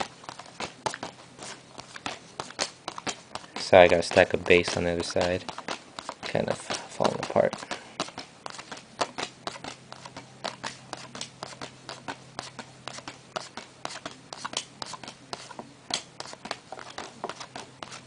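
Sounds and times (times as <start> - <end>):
trading cards clicking and snapping: 0.0 - 18.0.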